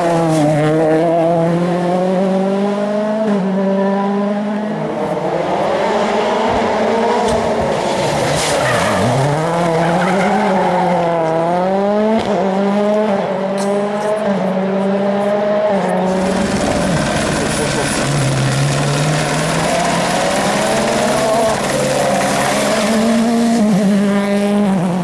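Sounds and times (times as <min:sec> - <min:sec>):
rally car engine at high revs: 0:00.0 - 0:25.0.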